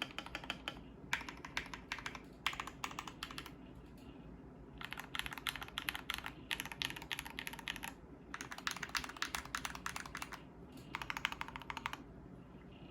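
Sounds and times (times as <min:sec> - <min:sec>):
mechanical keyboard typing: 0:00.0 - 0:03.6, 0:04.8 - 0:12.0.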